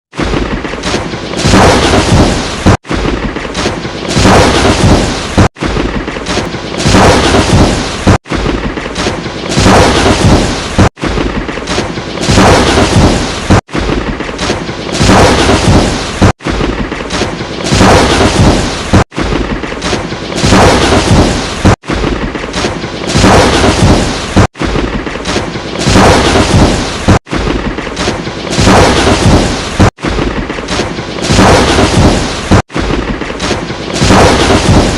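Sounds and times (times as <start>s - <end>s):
thunder crack with rumbling tail: 0.1s - 34.9s.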